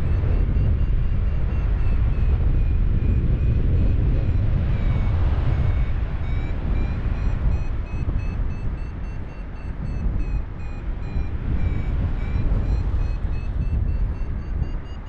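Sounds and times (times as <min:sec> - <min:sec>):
variometer beeping: 0:00.0 - 0:15.0
wind rumbling over microphone: 0:00.0 - 0:15.0.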